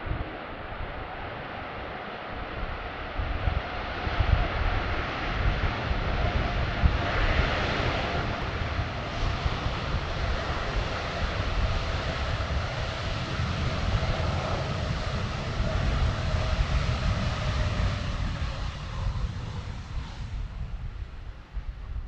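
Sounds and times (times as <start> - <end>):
jet engines running: 0.0 - 21.6
wind rumble on microphone: 0.0 - 22.0.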